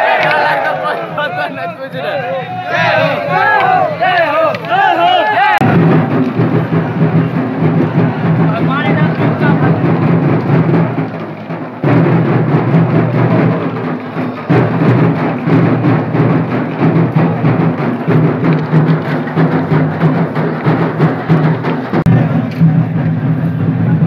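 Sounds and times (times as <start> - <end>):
drum-heavy procession music: 0.0 - 24.0
large crowd noise: 0.0 - 24.0.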